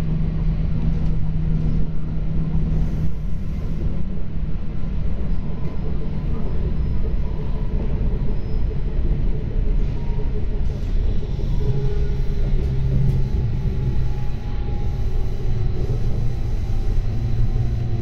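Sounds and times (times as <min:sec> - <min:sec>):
wheels rumbling on track: 0:00.0 - 0:18.0.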